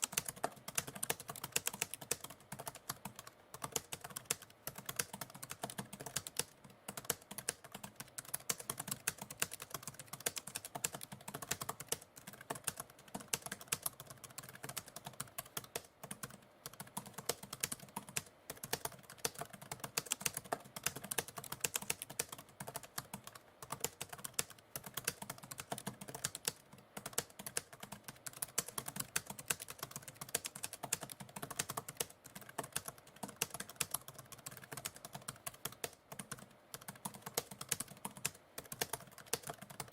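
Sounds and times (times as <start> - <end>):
typewriter keys clicking: 0.0 - 39.9.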